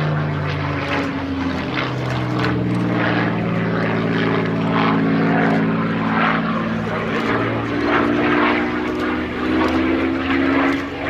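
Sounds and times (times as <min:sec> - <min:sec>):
model aircraft motor buzzing: 0:00.0 - 0:11.0.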